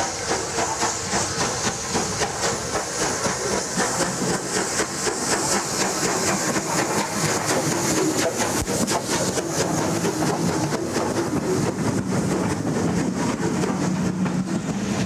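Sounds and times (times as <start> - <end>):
steam hissing: 0.0 - 15.0
steam locomotive exhaust beats: 0.0 - 15.0.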